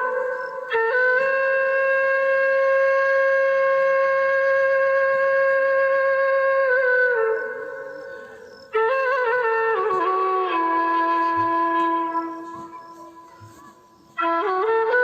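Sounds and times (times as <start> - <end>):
wind instrument slow melody: 0.0 - 15.0.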